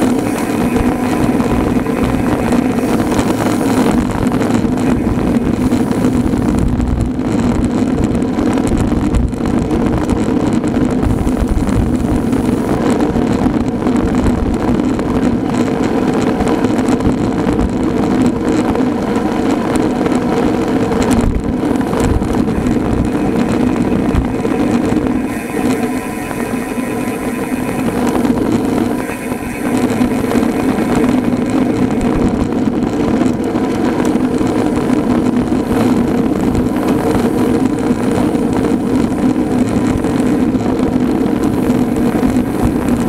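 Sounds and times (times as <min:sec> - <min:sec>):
low hum: 0:00.0 - 0:43.0
road noise: 0:00.0 - 0:43.0
wind buffeting microphone: 0:00.0 - 0:43.0.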